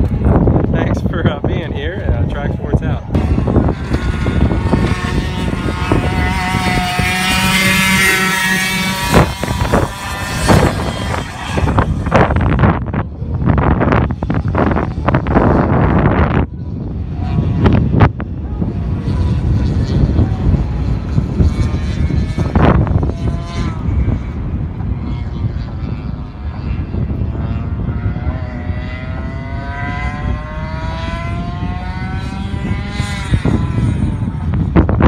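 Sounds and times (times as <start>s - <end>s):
heavy low rumble: 0.0s - 35.0s
kart engine accelerating: 3.1s - 35.0s.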